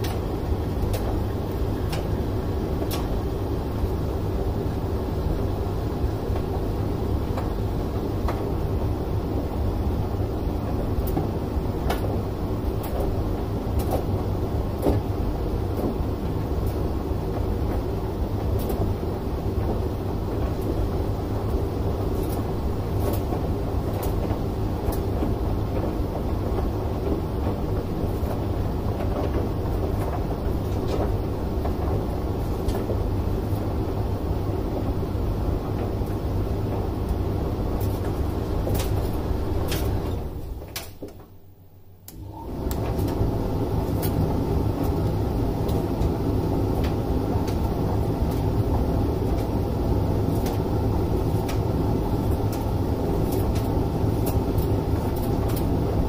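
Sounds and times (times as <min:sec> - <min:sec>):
washing machine drum rumbling: 0:00.0 - 0:41.5, 0:42.2 - 0:56.0.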